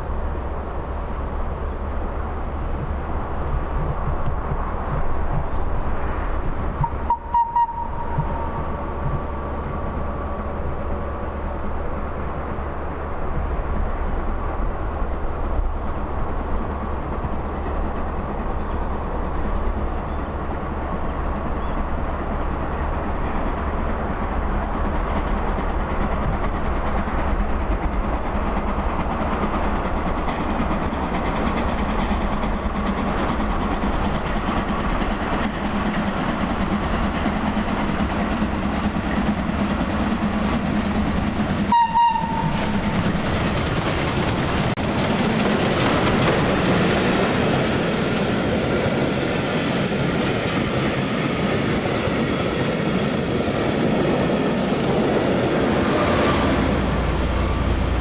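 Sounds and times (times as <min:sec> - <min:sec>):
steam train running on rails: 0:00.0 - 0:58.0.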